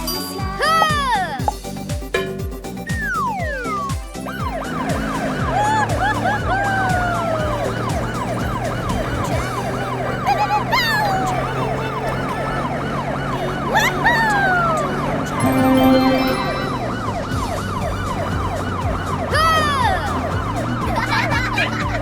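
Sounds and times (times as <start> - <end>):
siren wailing: 3.1 - 21.4.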